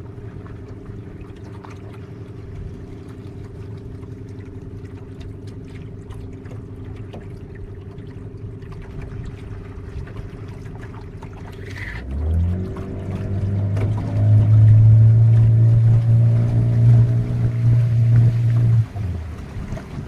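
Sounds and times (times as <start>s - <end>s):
motorboat engine humming: 0.0s - 20.0s
water splashing along hull: 0.0s - 20.0s.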